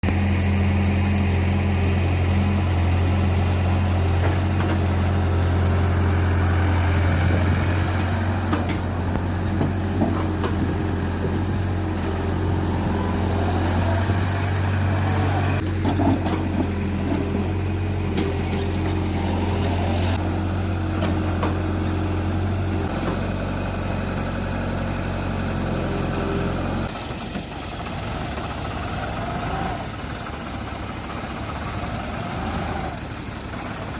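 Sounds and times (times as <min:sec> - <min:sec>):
diesel engine humming: 0:00.0 - 0:33.9.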